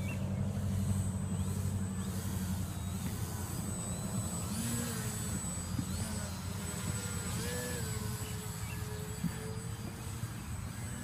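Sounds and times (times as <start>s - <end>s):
model plane motor whining: 0.0s - 11.0s.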